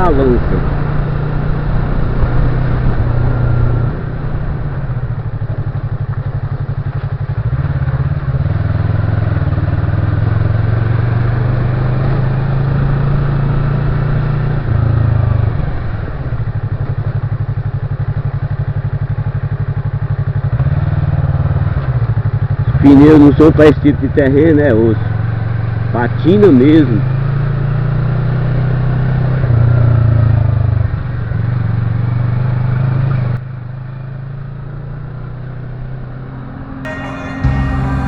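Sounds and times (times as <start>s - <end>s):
motorcycle engine at low revs: 0.0s - 36.7s.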